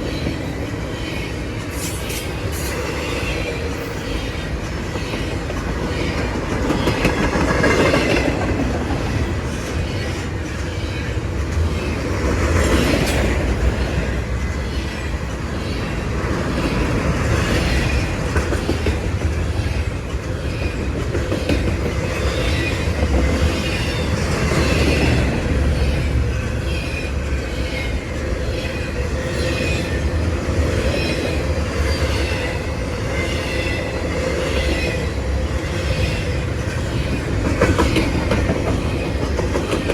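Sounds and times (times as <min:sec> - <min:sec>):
train wheels clattering on rail: 0:00.0 - 0:39.9.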